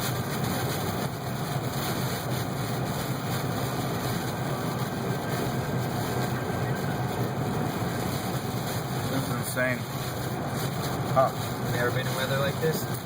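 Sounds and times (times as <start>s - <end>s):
car cabin engine and road noise: 0.0s - 13.0s.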